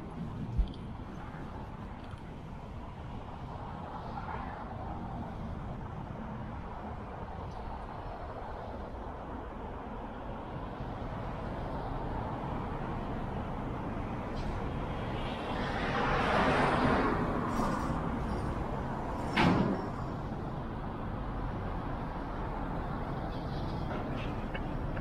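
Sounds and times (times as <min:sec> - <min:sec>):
street traffic: 0:00.0 - 0:25.0.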